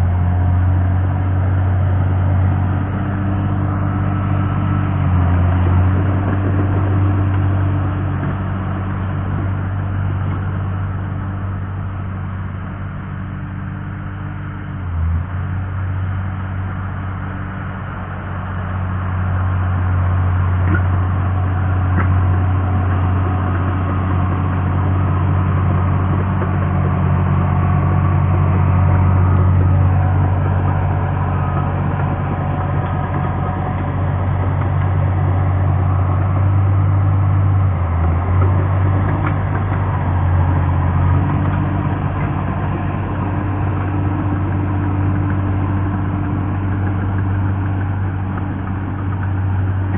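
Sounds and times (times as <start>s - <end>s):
diesel engine humming: 0.0s - 49.9s.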